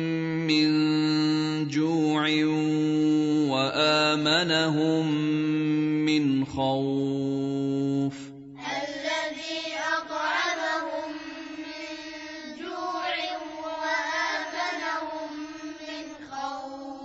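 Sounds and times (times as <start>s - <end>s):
wordless vocal chanting: 0.0s - 17.0s.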